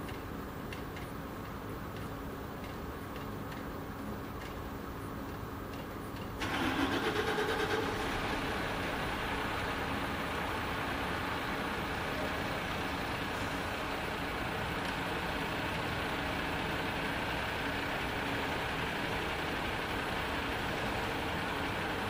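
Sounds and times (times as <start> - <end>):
distant city traffic hum: 0.0 - 22.0.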